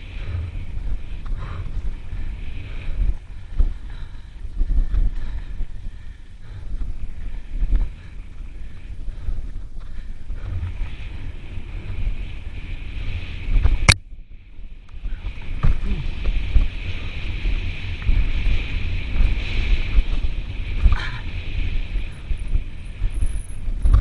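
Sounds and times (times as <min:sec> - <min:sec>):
bike tyres and frame rattling: 0:00.0 - 0:24.0
wind buffeting microphone: 0:00.0 - 0:24.0.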